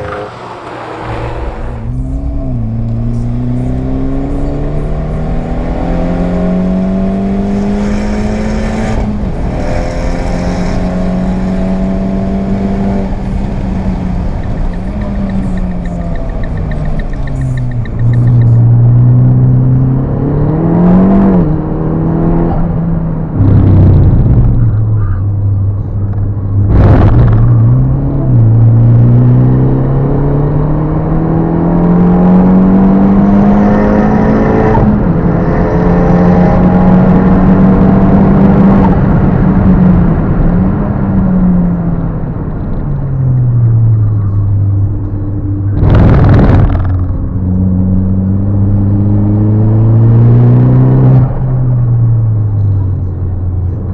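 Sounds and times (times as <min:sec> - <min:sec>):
turbocharged car engine accelerating: 0:00.0 - 0:53.9.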